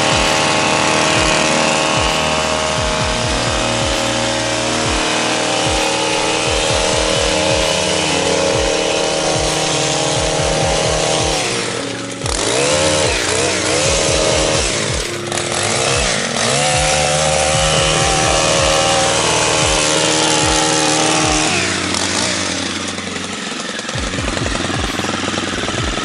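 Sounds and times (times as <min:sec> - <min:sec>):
gas string trimmer engine revving: 0:00.0 - 0:26.0.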